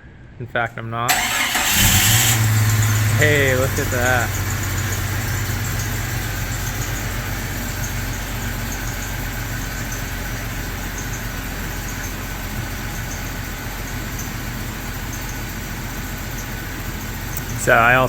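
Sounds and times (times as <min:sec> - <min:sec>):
car engine idling: 0:00.6 - 0:18.0.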